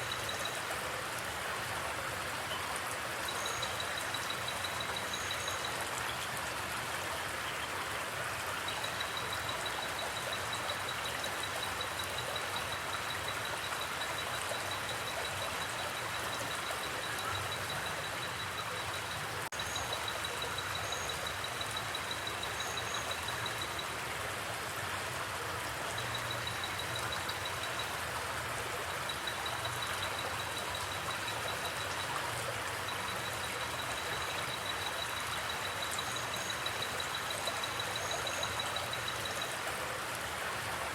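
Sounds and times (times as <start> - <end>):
river flowing over rocks: 0.0 - 40.9.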